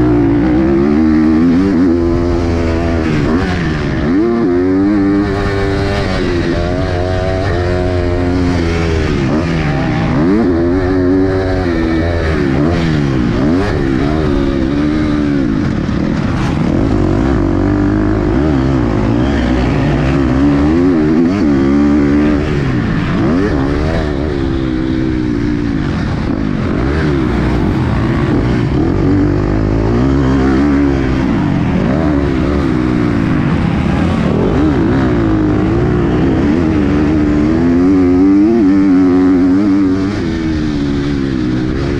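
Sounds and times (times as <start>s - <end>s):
motocross engine revving: 0.0s - 41.9s.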